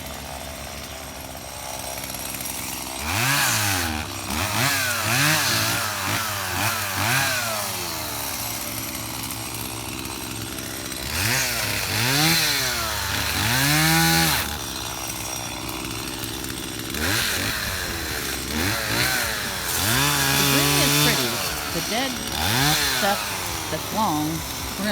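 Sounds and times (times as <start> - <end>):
chainsaw engine revving and idling: 0.0 - 24.9.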